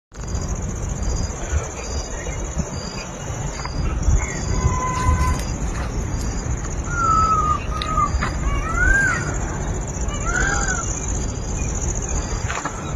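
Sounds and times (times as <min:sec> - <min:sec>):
high insect drone: 0:00.2 - 0:12.9
birds whistling: 0:00.9 - 0:12.9.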